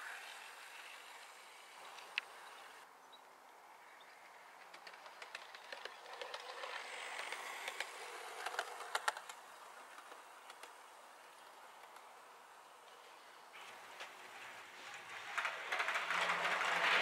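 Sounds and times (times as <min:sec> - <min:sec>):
model train wheels clicking on rails: 0:00.0 - 0:02.8, 0:04.2 - 0:17.0.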